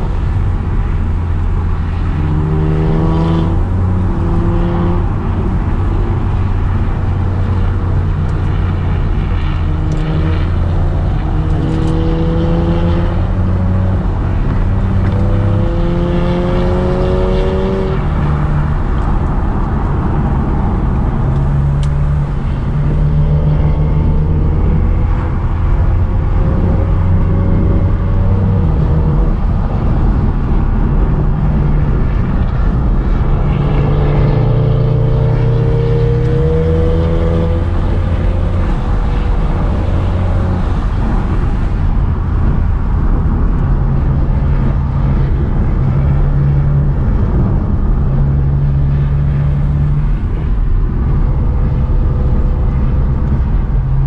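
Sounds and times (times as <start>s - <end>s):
car engine revving: 0.0s - 54.0s
steady low drone: 0.0s - 54.0s.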